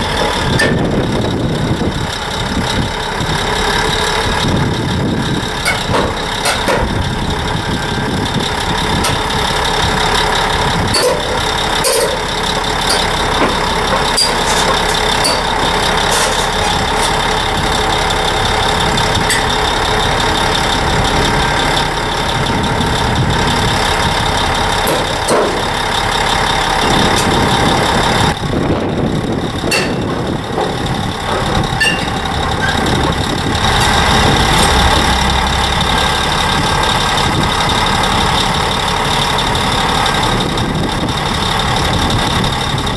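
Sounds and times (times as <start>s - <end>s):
diesel engine running: 0.0s - 42.9s
steel tracks clanking: 0.0s - 42.9s.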